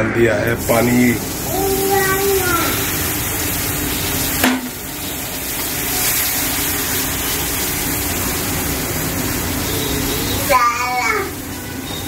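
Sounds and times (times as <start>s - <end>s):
flour sizzling and bubbling in a pan: 0.6s - 12.0s.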